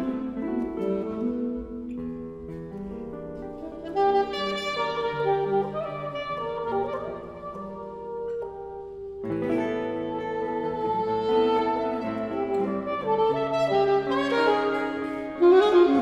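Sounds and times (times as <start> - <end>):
alto saxophone playing: 0.0 - 16.0
string quartet and guitar: 0.0 - 16.0.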